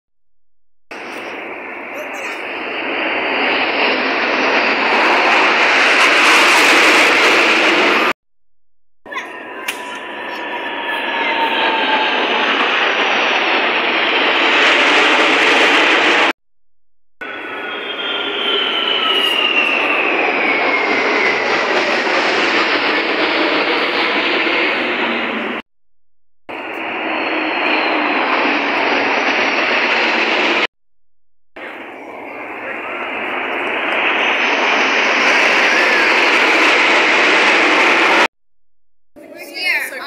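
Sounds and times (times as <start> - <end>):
jets roaring overhead: 0.9 - 8.2, 9.1 - 16.4, 17.2 - 25.7, 26.5 - 30.7, 31.6 - 38.3, 39.2 - 40.0.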